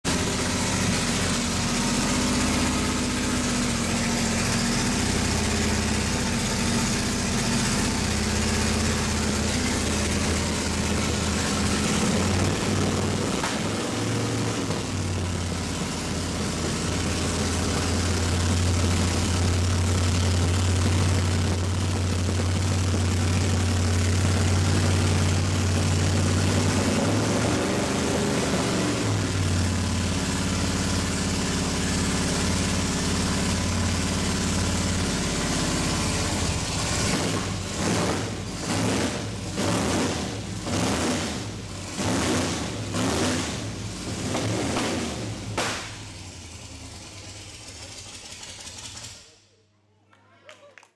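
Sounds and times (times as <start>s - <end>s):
car engine idling: 0.0s - 49.4s.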